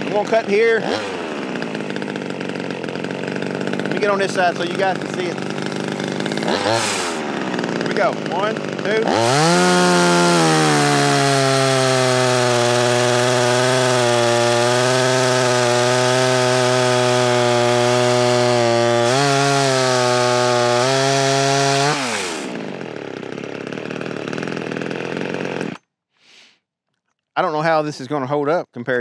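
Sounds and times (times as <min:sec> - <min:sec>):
chainsaw cutting through log: 0:00.0 - 0:26.5.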